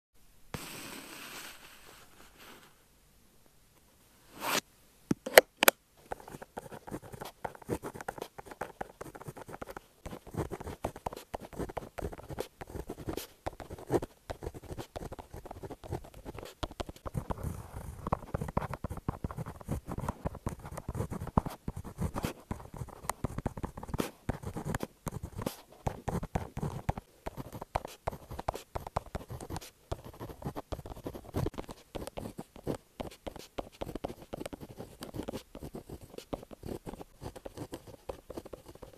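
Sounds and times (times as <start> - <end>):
scratching and light tapping: 6.1 - 38.9.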